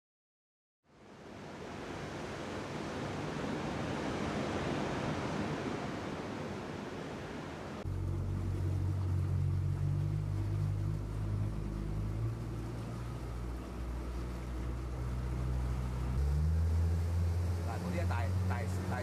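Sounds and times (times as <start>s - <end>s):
wind: 0.8s - 19.0s
sea surf rushing: 1.0s - 19.0s
motorboat engine humming: 1.5s - 19.0s.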